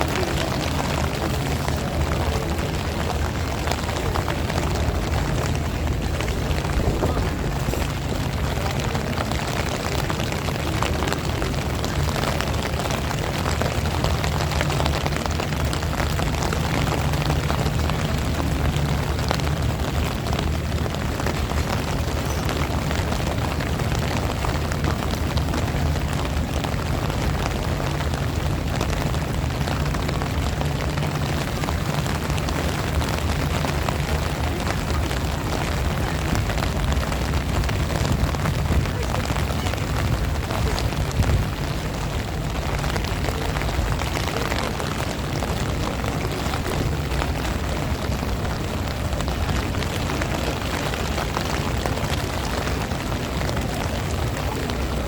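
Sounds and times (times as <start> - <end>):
heavy rain patter: 0.0 - 55.0
wind buffeting microphone: 0.0 - 55.0.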